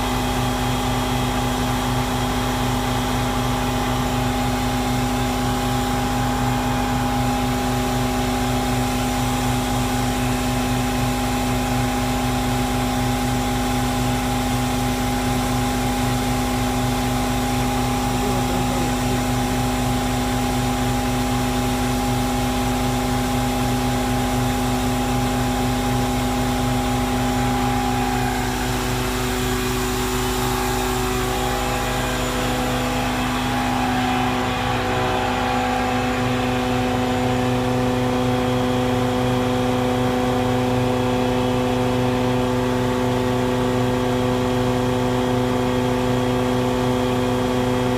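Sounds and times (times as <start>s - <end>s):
loud machine drone: 0.0s - 47.9s.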